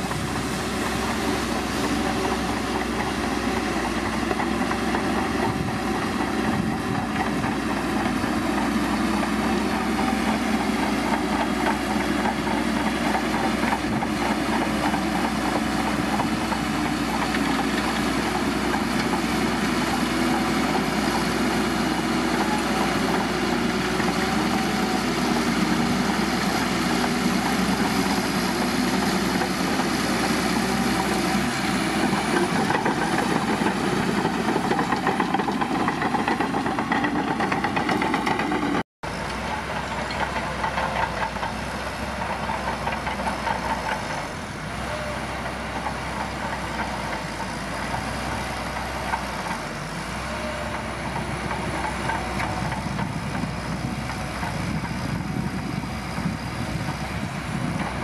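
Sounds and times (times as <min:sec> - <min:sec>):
bulldozer diesel engine: 0:00.0 - 0:58.0
bulldozer pushing soil: 0:00.0 - 0:58.0.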